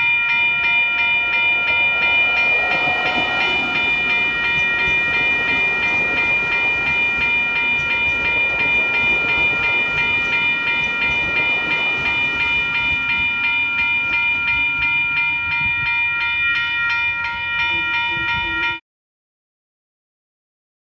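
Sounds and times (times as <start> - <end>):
crossing warning bells ringing: 0.0 - 18.8
train rumbling past: 0.0 - 18.8.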